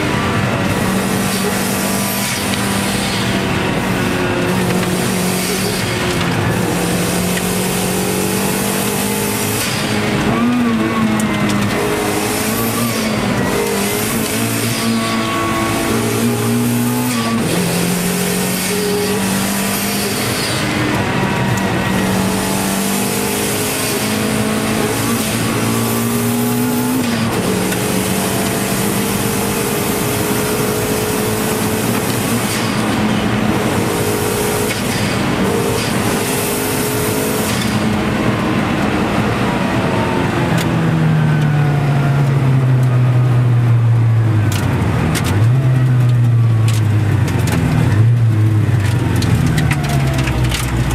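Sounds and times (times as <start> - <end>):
car engine at full throttle: 0.0 - 50.9.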